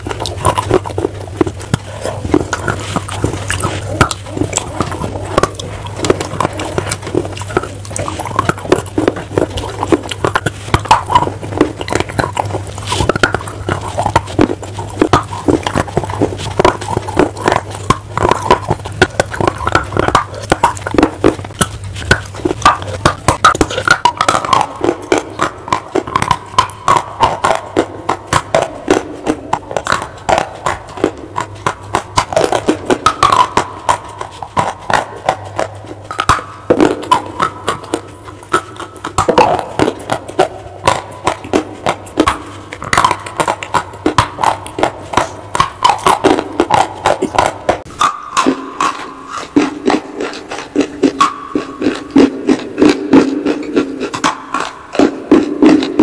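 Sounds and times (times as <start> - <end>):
crunching bites and chewing: 0.0 - 56.0
low steady hum: 0.0 - 56.0.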